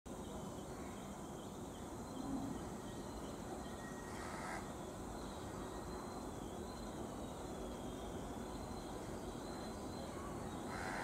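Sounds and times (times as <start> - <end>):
bird chirping: 0.1 - 11.0.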